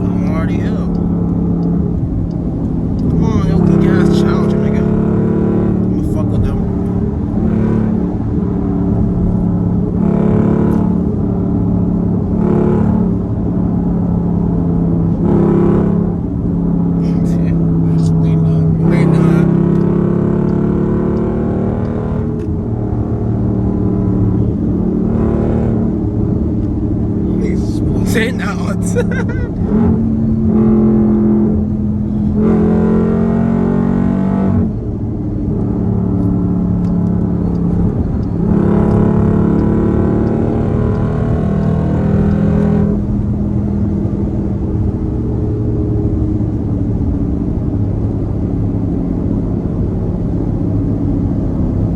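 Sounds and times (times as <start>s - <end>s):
engine exhaust drone: 0.0s - 51.9s.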